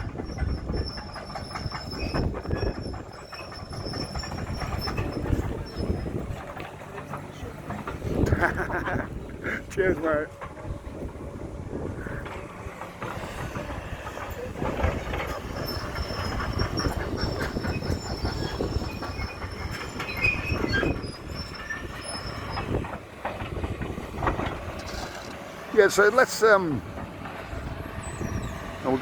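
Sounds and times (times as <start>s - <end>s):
high wheel squeal: 0.0s - 23.0s, 24.3s - 26.8s, 27.4s - 29.0s
tram rumbling past: 0.0s - 29.0s.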